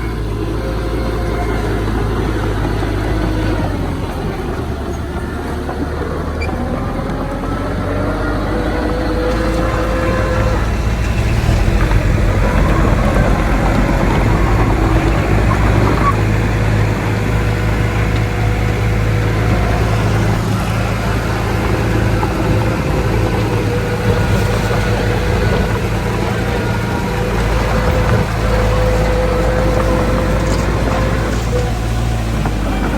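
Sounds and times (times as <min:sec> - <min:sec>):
diesel machinery engine rumble: 0:00.0 - 0:32.9
steady machine whine: 0:00.0 - 0:32.9.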